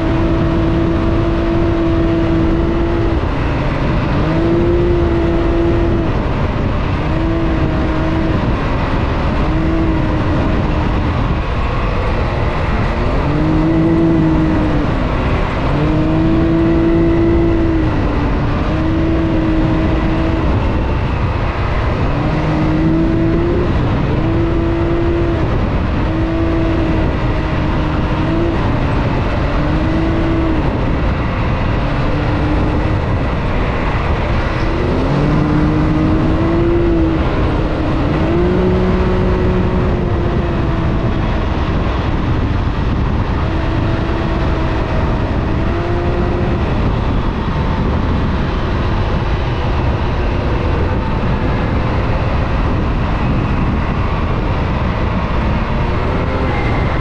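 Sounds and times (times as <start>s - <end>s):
ground noise: 0.0s - 57.0s
utv engine running hard: 0.0s - 57.0s
wind rushing: 0.0s - 57.0s.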